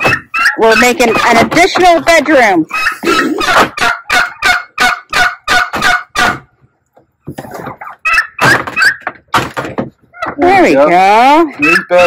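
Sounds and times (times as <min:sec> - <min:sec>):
turkeys calling: 0:00.0 - 0:12.0.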